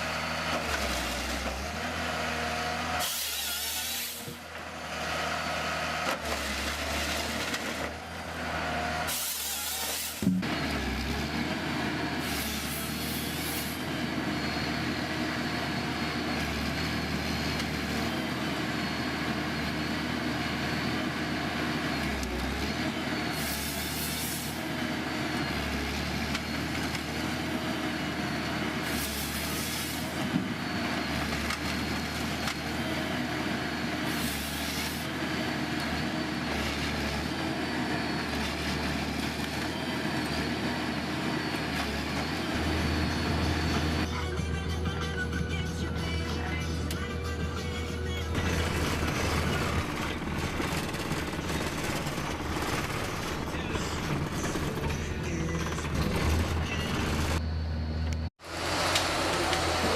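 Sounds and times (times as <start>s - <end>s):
heavy machinery running: 0.0s - 59.9s.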